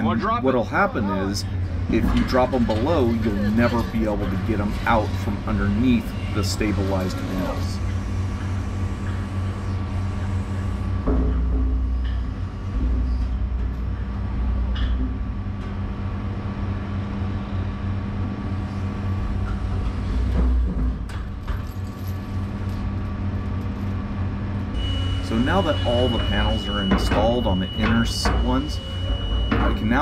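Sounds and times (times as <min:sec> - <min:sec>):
excavator engine droning: 0:00.0 - 0:30.0.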